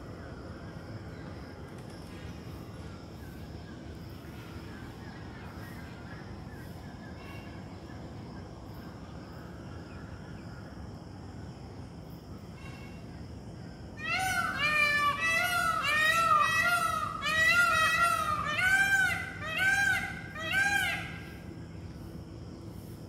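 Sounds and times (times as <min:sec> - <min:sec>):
faint bird calls: 0:00.0 - 0:10.9, 0:12.3 - 0:21.7
outdoor background noise: 0:00.0 - 0:23.0.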